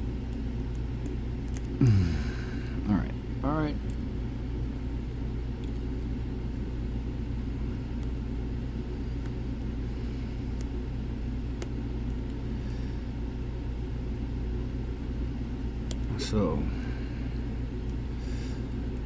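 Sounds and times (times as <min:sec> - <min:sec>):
background hum: 0:00.0 - 0:19.0
steady low rumble: 0:00.0 - 0:19.0.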